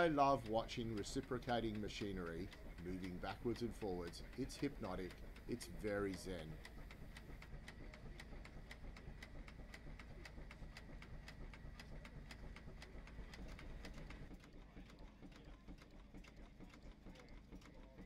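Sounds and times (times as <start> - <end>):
low engine rumble: 0.0 - 14.8
steam engine rhythmic ticking: 0.0 - 18.0.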